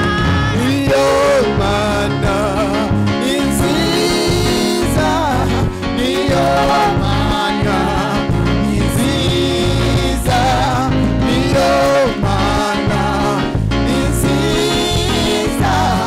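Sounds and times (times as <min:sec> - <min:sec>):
gospel choir singing: 0:00.0 - 0:16.0
instrumental backing with beat: 0:00.0 - 0:16.0.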